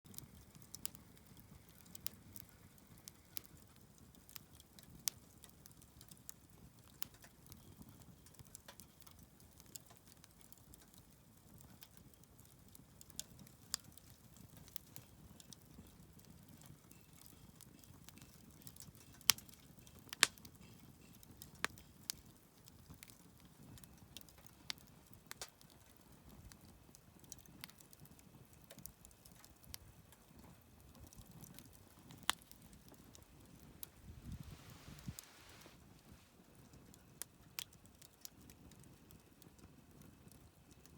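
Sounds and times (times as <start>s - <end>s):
wood fire crackling and popping: 0.1s - 40.9s.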